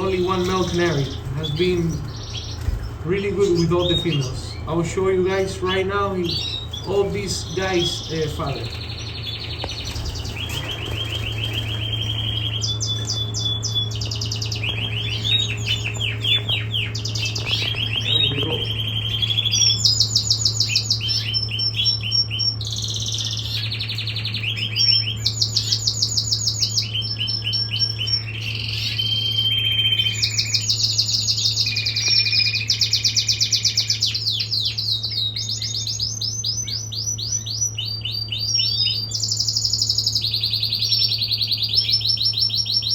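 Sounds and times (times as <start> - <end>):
canary singing trills: 0.0 - 42.9
steady low hum: 0.0 - 42.9.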